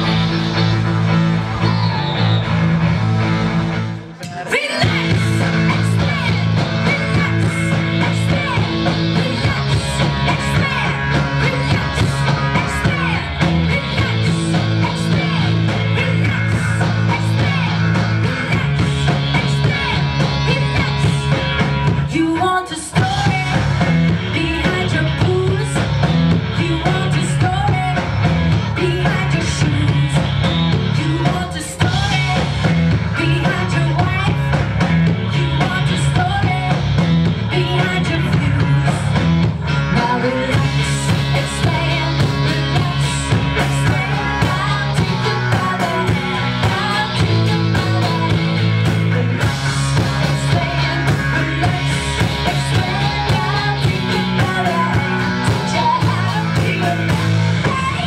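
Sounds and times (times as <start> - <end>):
drum kit: 0.0 - 58.0
electric bass guitar: 0.0 - 58.0
person singing: 4.2 - 39.2, 39.8 - 58.0.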